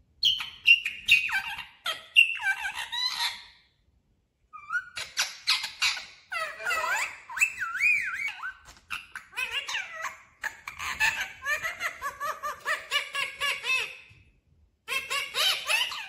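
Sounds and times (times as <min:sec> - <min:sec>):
parakeet squeaky calls: 0:00.2 - 0:03.6, 0:04.6 - 0:14.1, 0:14.9 - 0:16.0.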